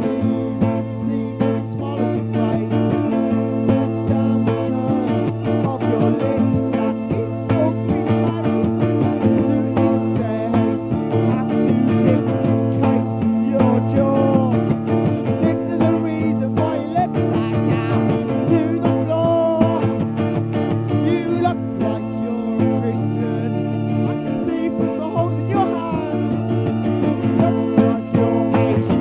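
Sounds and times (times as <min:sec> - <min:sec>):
rock band with guitar and keyboard: 0:00.0 - 0:29.0.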